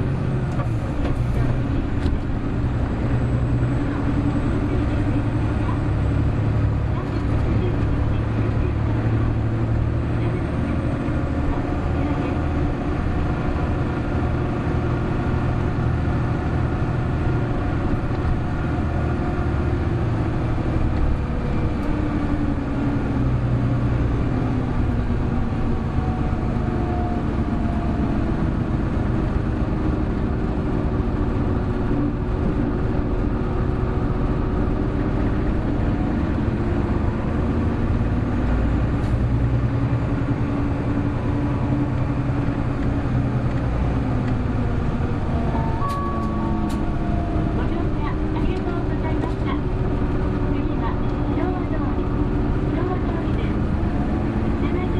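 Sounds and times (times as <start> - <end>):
bus engine droning: 0.0 - 54.9.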